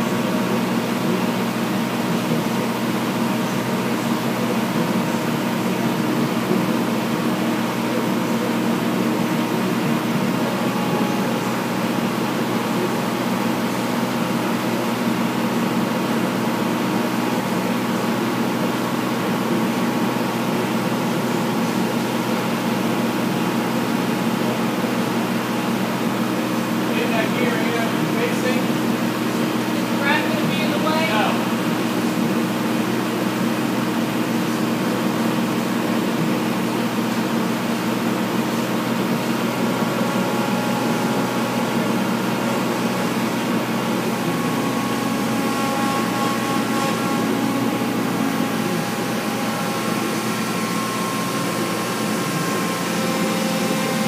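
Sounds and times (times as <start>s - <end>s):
machine humming steadily: 0.0s - 54.0s.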